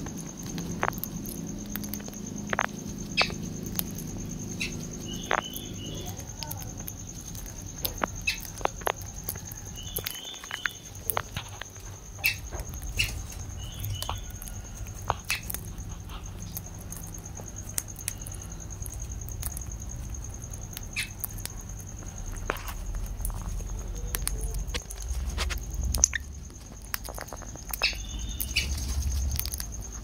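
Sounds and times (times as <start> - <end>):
birds clicking and scratching in cage: 0.0 - 30.0.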